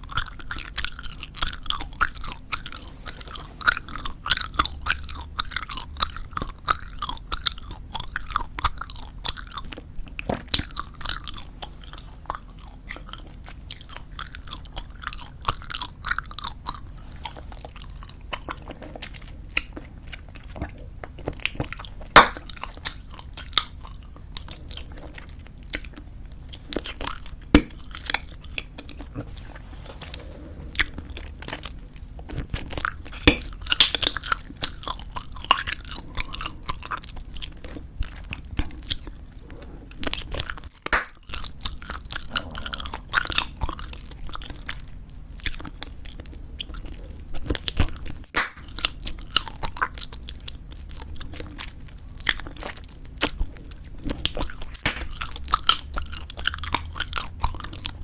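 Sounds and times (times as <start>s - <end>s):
gum chewing wet smacks: 0.0s - 29.6s, 30.6s - 58.0s.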